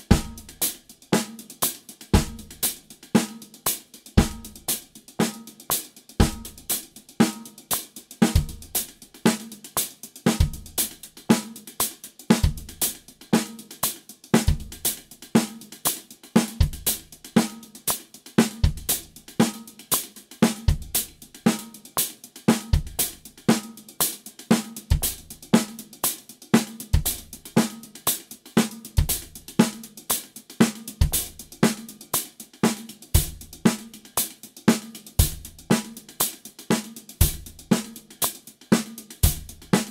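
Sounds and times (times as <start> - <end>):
snare drum backbeat: 0.0 - 39.9.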